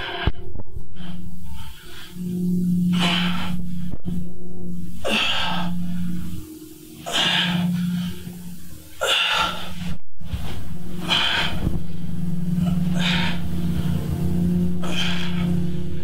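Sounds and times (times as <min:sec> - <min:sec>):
forceful exhaled breaths: 0:00.0 - 0:16.0
steady low hum: 0:00.0 - 0:16.0.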